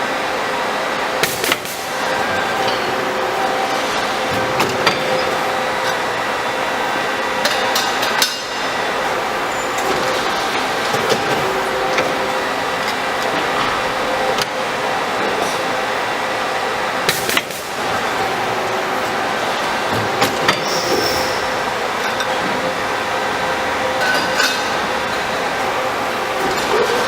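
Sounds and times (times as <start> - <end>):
machine whirring: 0.0 - 27.0.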